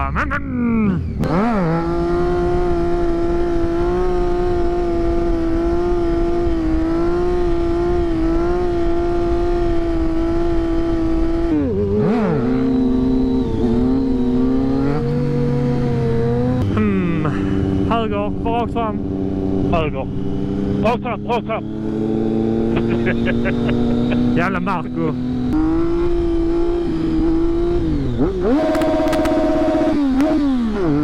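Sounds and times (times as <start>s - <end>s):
motorcycle engine at high revs: 0.2s - 31.0s.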